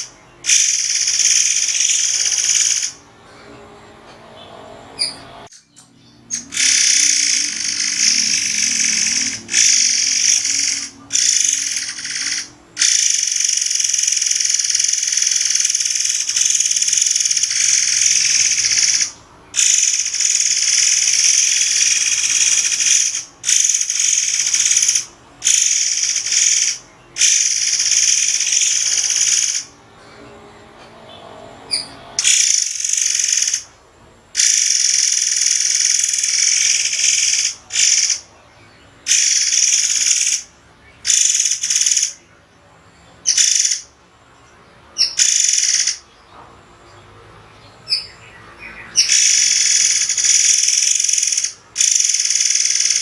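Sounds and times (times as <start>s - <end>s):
songbird singing rapid trills: 0.0s - 3.0s, 4.4s - 30.2s, 31.1s - 33.7s, 34.4s - 43.9s, 46.9s - 53.0s.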